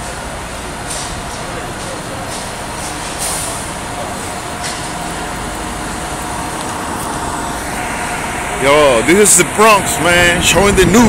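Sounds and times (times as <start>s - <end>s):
truck engines running: 0.0s - 11.0s.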